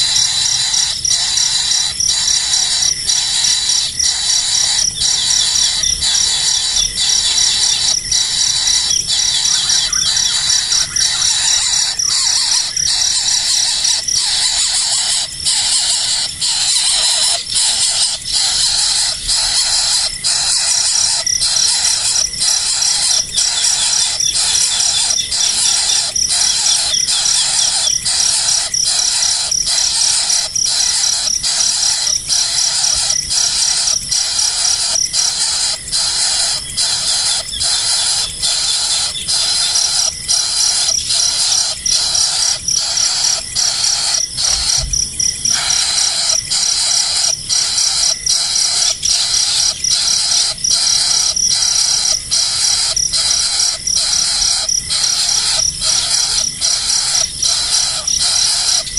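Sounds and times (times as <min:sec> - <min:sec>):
pulsing high-pitched insect chorus: 0:00.0 - 0:58.9.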